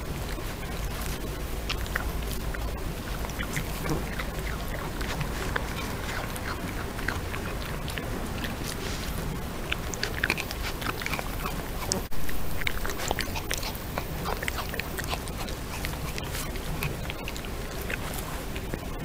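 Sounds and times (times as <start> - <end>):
badger sniffing and chewing: 0.0 - 19.0
rustling vegetation crackles: 0.0 - 19.0
steady hiss: 0.0 - 19.0.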